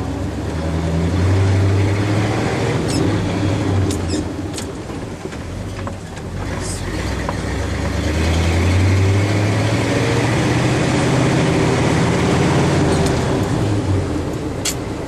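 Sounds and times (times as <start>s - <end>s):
truck engine pulling in gear: 1.1s - 15.0s.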